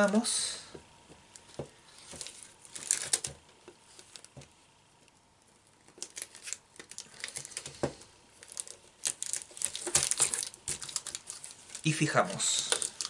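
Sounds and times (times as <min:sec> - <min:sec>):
plastic film crinkling: 0:01.2 - 0:04.5, 0:05.6 - 0:13.0.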